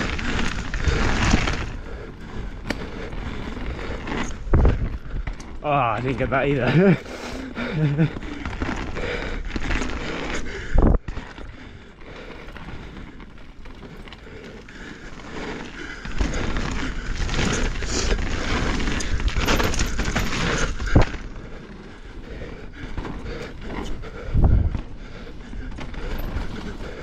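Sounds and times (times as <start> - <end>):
bike rattling and knocking: 0.0 - 27.0
tyres rolling over gravel: 0.0 - 27.0.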